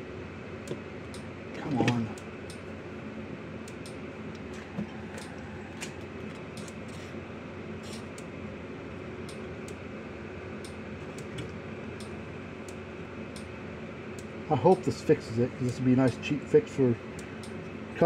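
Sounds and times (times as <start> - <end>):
fan humming: 0.0 - 18.0.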